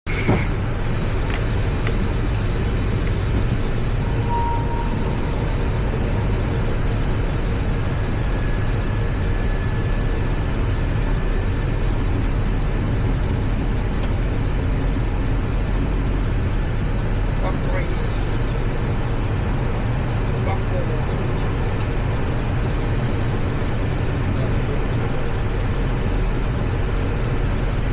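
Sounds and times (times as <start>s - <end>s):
cockpit airflow and engine rumble: 0.0s - 27.9s.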